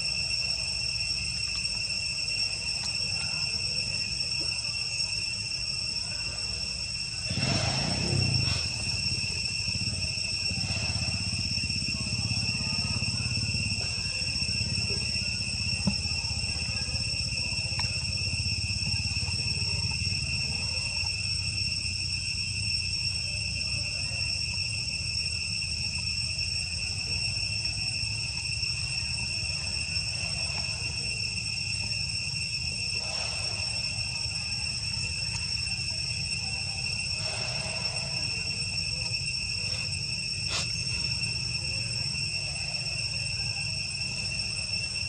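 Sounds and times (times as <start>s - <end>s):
insects shrill chorus: 0.0s - 45.0s.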